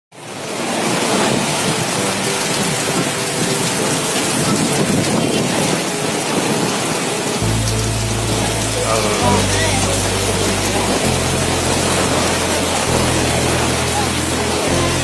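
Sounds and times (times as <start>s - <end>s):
heavy rain pouring: 0.1s - 15.0s.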